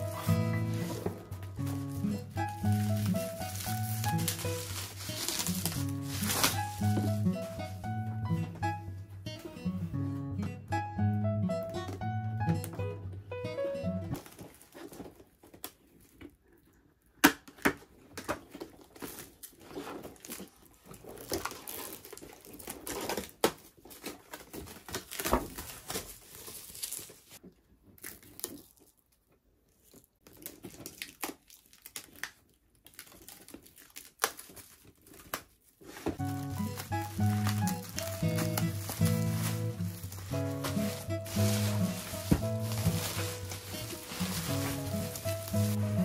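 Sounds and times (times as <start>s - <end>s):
plastic film crinkling and tearing: 0.0s - 8.0s, 14.1s - 16.4s, 18.1s - 46.0s.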